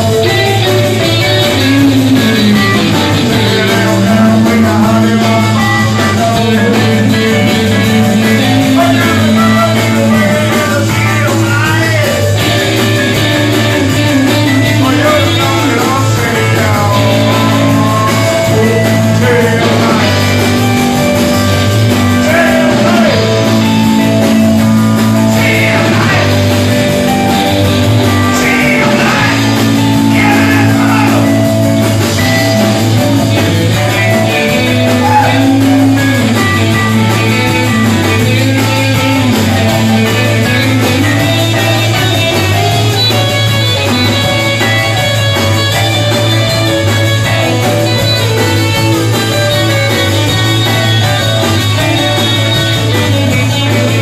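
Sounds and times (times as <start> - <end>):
person singing: 0.0 - 20.7, 21.8 - 54.0
live rock band playing: 0.0 - 54.0.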